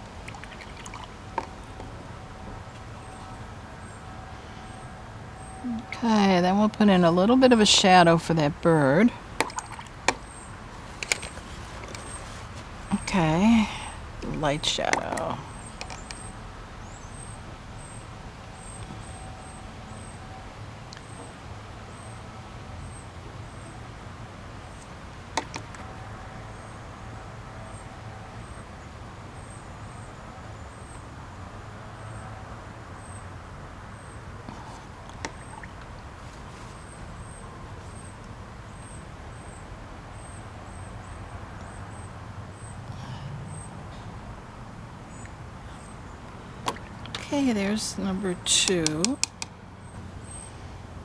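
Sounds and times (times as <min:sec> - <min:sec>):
low hum of distant traffic: 0:00.0 - 0:51.0.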